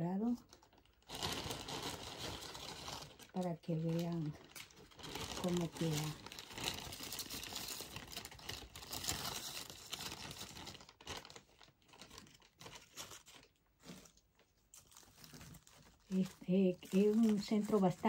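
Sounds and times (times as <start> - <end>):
decorative sprigs rustling: 0.0 - 18.0.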